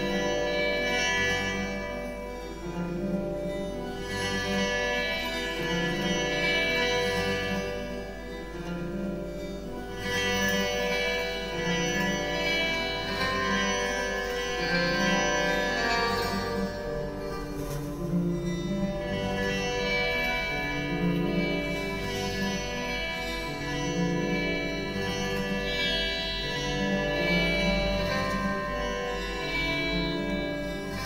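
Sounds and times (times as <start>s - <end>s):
plucked strings: 0.0s - 31.0s
sustained droning tones: 0.0s - 31.0s.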